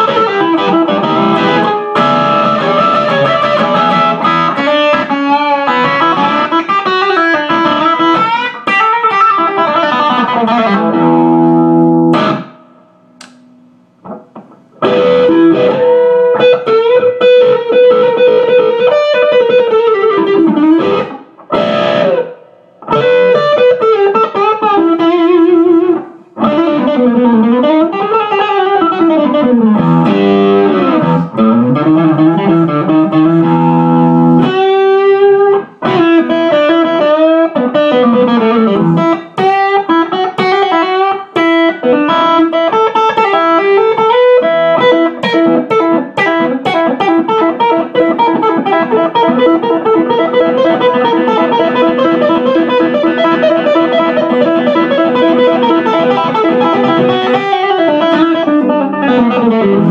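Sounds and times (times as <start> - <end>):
overdriven electric guitar: 0.0 - 59.9.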